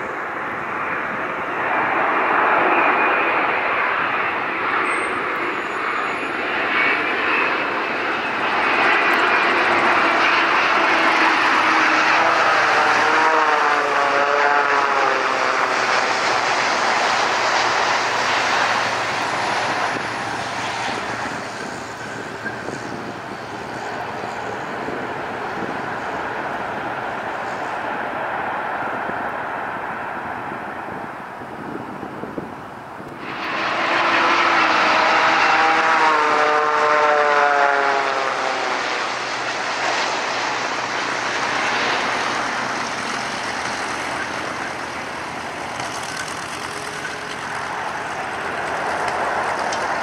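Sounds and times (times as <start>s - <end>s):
jet airliner landing: 0.0s - 50.0s.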